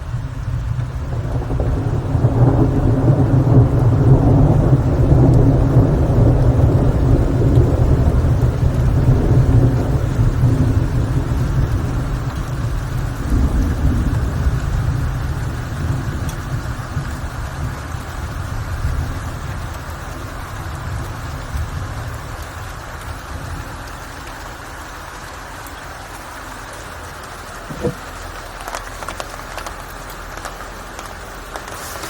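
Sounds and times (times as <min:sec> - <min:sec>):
low rumble of thunder: 0:00.0 - 0:31.3
steady rain: 0:00.0 - 0:32.0.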